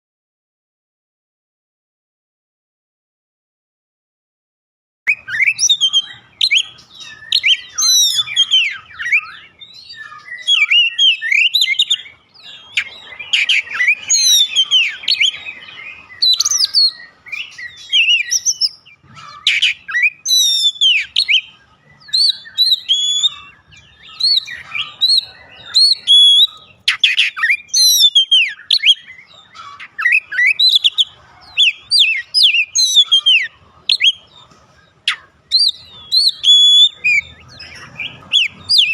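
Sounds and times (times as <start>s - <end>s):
bird singing: 5.1s - 38.9s.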